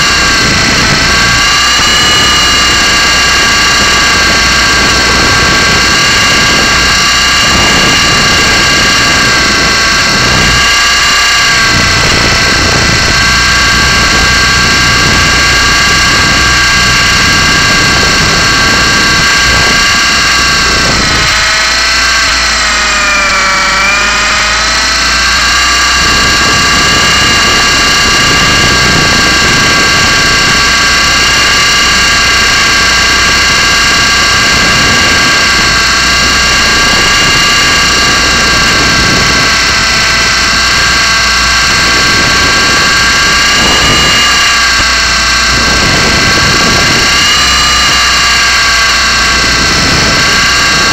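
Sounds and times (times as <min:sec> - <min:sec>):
rc helicopter motor whine: 0:00.0 - 0:50.9.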